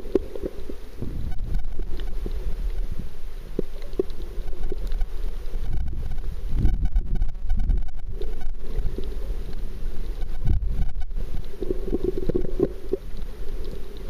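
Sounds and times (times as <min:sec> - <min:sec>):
underwater rumble of moving water: 0:00.0 - 0:14.0.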